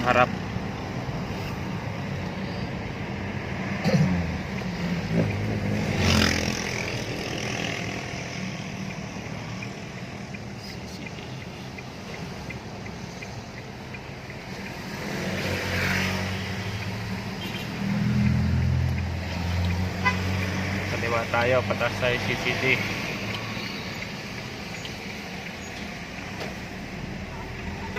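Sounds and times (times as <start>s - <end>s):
diesel engine and tyre noise: 0.0s - 27.9s
faint regular ticking: 4.4s - 27.9s.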